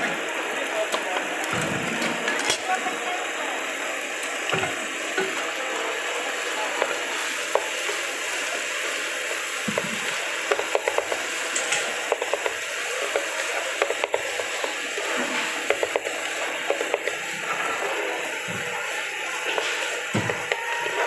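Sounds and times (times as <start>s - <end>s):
rice sizzling in a pan: 0.0s - 21.0s.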